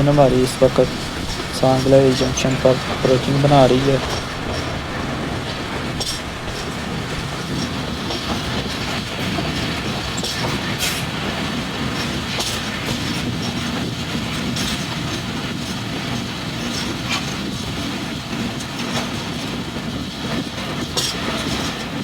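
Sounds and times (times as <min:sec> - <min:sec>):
train running on rails: 0:00.0 - 0:22.0.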